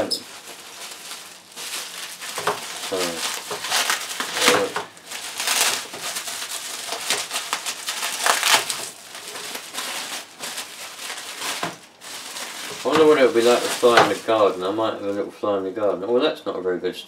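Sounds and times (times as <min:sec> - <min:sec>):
bubble wrap crinkling: 0:00.0 - 0:15.3.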